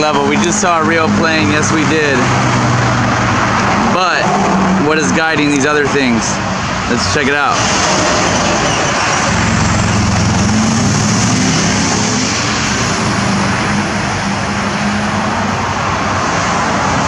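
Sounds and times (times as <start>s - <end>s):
road traffic noise: 0.0s - 17.0s
vehicle engine hum: 0.0s - 17.0s.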